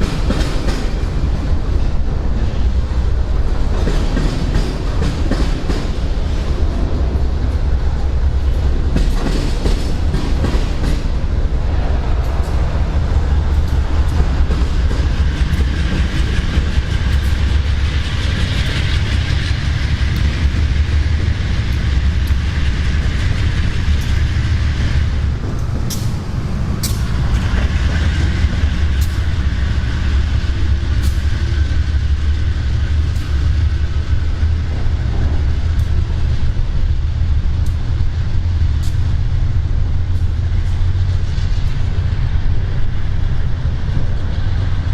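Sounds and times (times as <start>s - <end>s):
train cars rumbling past: 0.0s - 44.9s
wheels clicking over rail joints: 0.0s - 44.9s.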